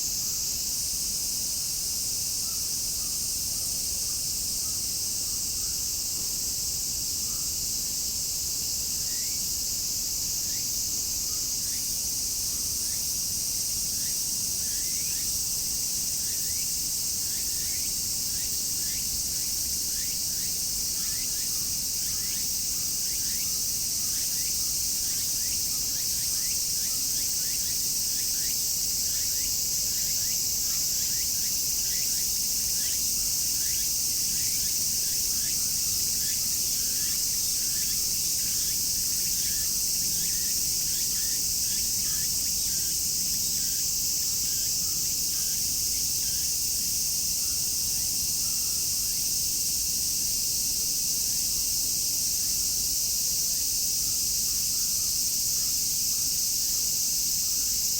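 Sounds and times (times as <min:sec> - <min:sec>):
cicadas droning: 0:00.0 - 0:57.9.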